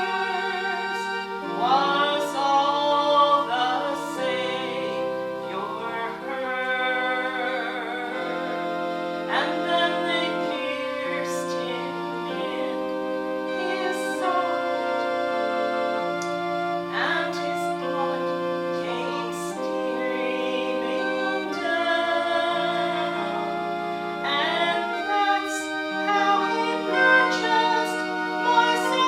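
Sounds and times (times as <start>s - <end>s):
sacred choral singing: 0.0s - 29.0s.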